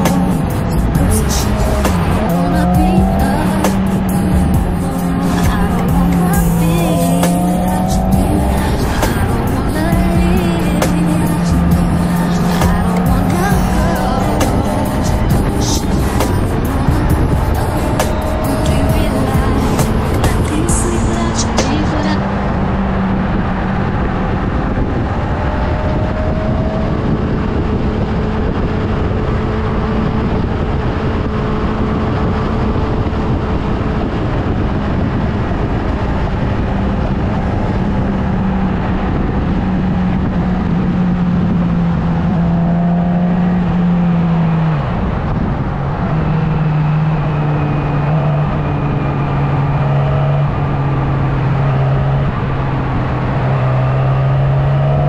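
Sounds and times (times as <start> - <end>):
motorcycle engine running: 0.0 - 44.3
road and air noise: 0.0 - 55.0.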